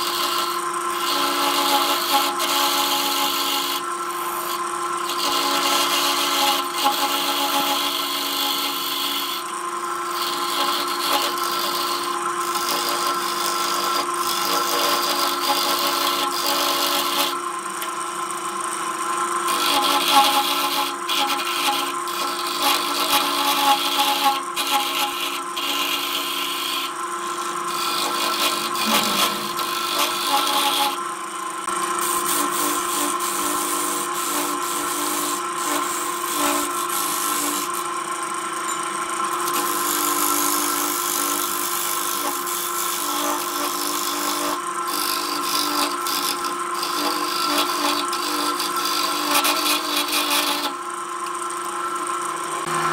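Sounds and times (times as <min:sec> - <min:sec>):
gouge scraping spinning wood: 0:00.0 - 0:52.9
lathe motor hum: 0:00.0 - 0:52.9.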